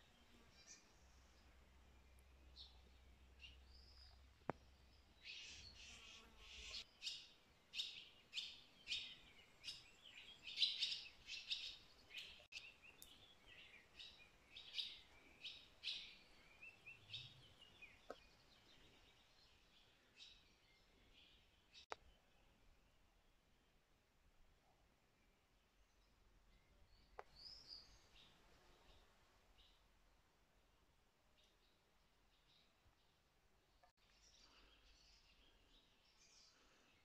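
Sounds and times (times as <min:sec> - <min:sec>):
small birds chirping: 0:00.0 - 0:23.8, 0:25.2 - 0:29.9, 0:31.3 - 0:37.0.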